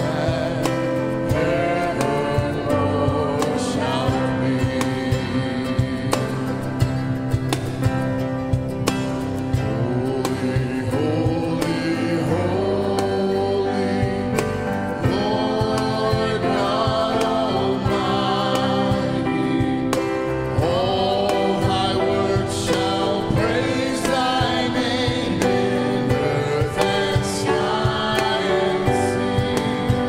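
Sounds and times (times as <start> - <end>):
instrumental accompaniment: 0.0 - 30.0
voices singing a hymn: 0.0 - 30.0.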